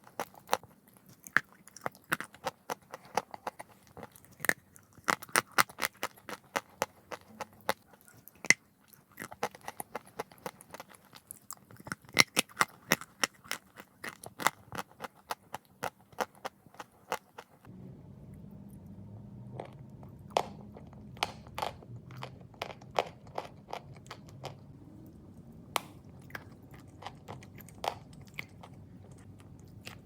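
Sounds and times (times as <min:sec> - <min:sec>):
chewing chalk crunches: 0:00.0 - 0:17.7, 0:19.7 - 0:24.7, 0:25.7 - 0:30.0
faint low hum: 0:00.0 - 0:30.0.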